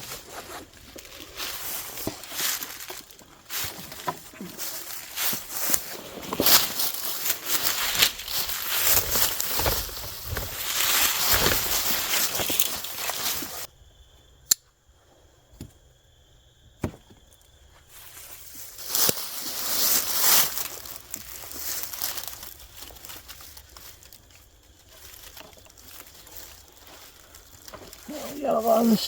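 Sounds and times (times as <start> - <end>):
straps and gear rustling: 0.0 - 13.7, 17.9 - 29.0.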